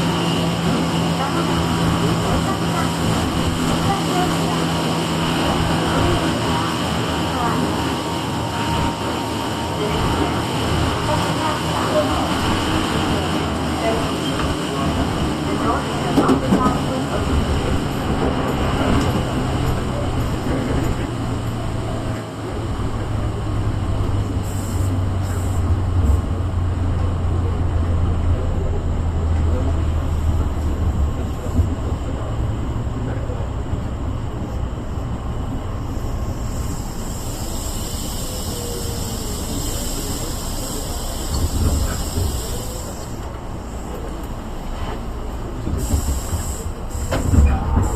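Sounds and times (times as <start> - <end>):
train rumbling and rushing: 0.0 - 47.9.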